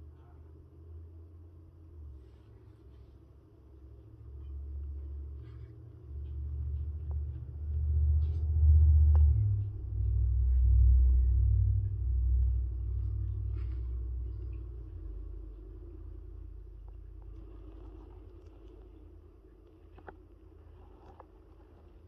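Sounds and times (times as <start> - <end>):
low uneven rumble: 0.0 - 22.0.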